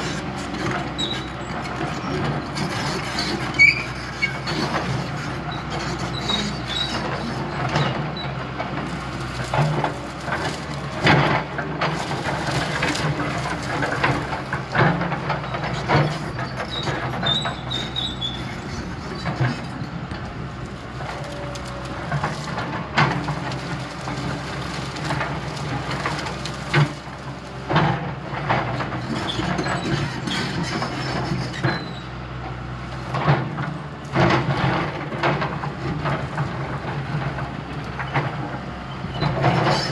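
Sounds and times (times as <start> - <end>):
heavy diesel engine: 0.0 - 39.9.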